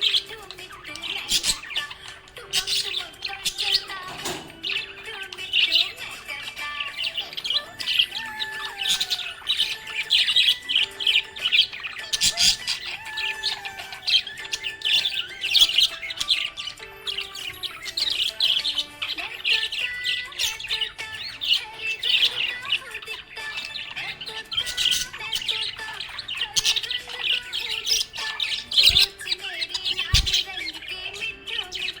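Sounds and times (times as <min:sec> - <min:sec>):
budgie chirping and warbling: 0:00.0 - 0:32.0.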